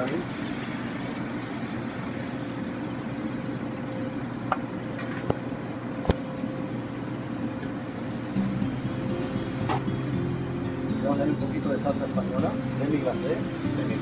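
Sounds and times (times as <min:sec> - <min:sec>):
kitchen ventilation hum: 0:00.0 - 0:14.0.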